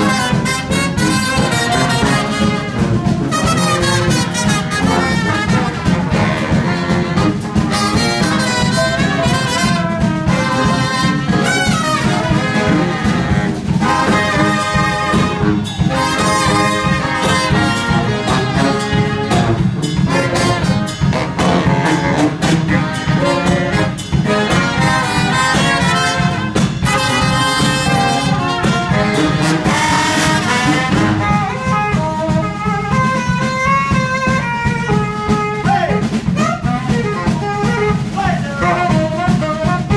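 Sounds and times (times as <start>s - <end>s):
drum kit beat: 0.0s - 39.9s
saxophones: 0.0s - 39.9s
sousaphone bass line: 0.0s - 39.9s
trombone: 0.0s - 39.9s
trumpet: 0.0s - 39.9s.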